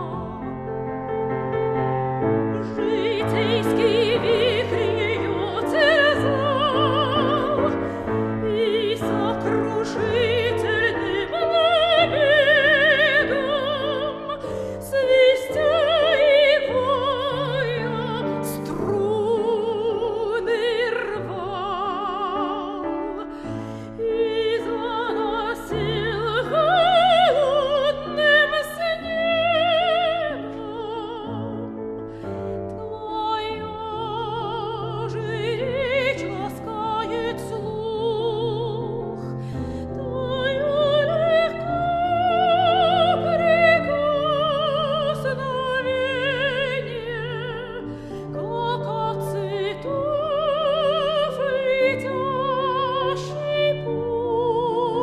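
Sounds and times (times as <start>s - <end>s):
piano: 0.0s - 55.0s
soprano singing operatic style: 0.0s - 55.0s.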